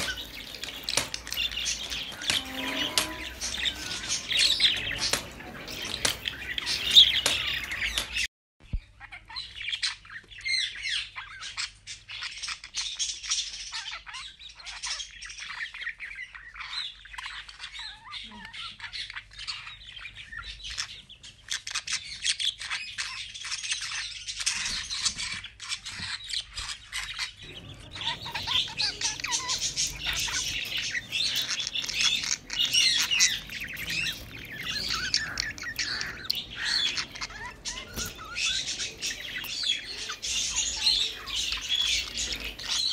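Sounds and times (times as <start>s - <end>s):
budgerigars chirping: 0.0s - 42.9s.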